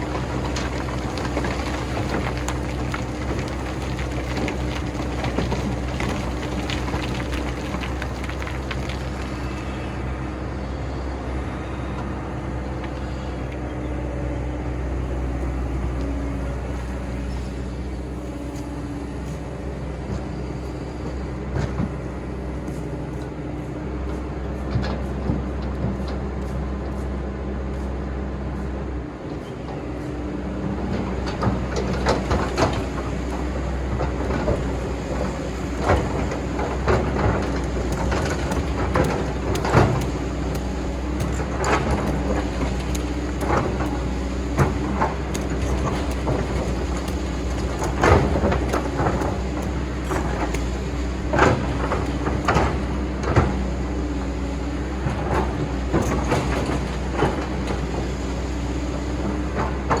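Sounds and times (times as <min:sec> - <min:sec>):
excavator clanks and knocks: 0:00.0 - 1:00.0
excavator engine running: 0:00.0 - 1:00.0.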